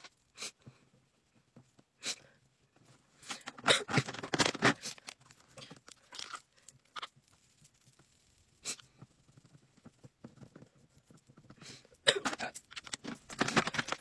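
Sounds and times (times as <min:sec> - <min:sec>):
makeup palette rustling and crackling: 0:02.6 - 0:14.0.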